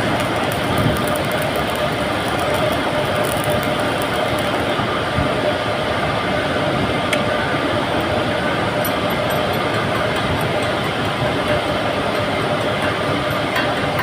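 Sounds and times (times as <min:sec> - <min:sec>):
loud machine noise: 0:00.0 - 0:14.0.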